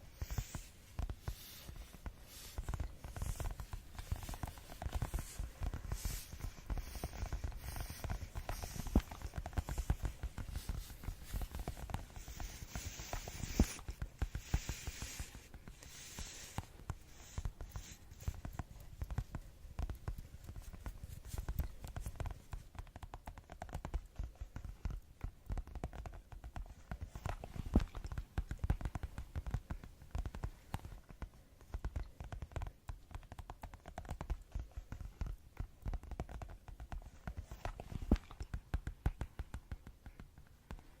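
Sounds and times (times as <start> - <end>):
fast light tapping: 0.1 - 41.0.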